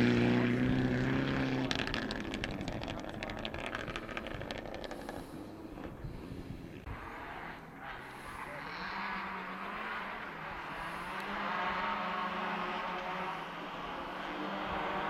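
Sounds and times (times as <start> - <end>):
rally car engine approaching: 0.0 - 15.0.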